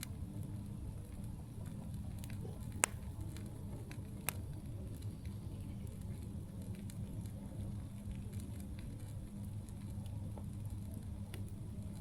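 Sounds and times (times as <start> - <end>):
campfire crackling and popping: 0.0 - 12.0
low steady rumble: 0.0 - 12.0.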